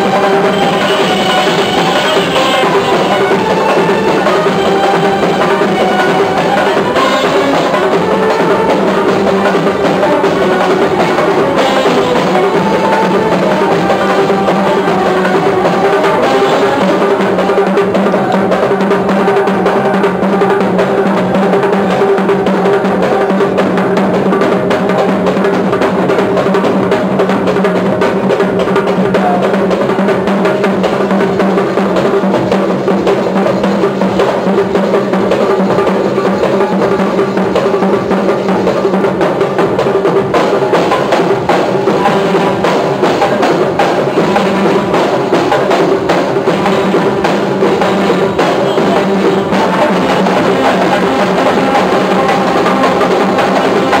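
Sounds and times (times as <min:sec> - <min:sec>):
hand-struck frame drums: 0:00.0 - 0:54.0
held melodic notes from band: 0:00.0 - 0:54.0
large drum beaten with sticks: 0:00.0 - 0:54.0.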